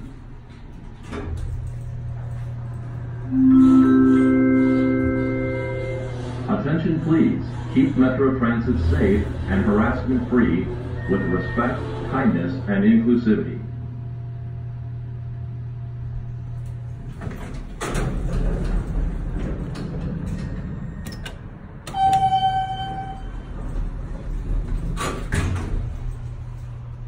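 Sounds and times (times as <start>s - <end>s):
elevator doors sliding shut: 0.0s - 12.7s, 16.4s - 27.0s
elevator car rumbling: 0.0s - 27.0s
steady low hum: 0.0s - 27.0s.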